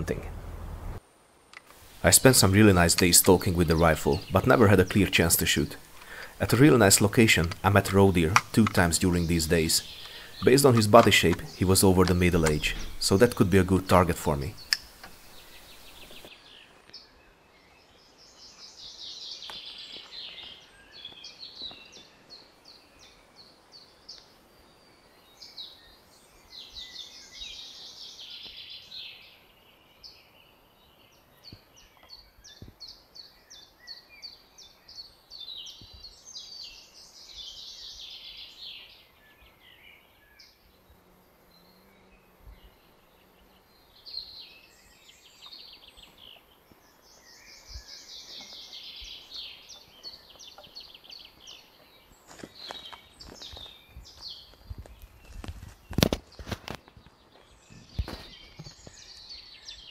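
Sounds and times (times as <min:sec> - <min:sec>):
songbirds singing: 0:00.0 - 0:00.8, 0:01.5 - 0:59.9.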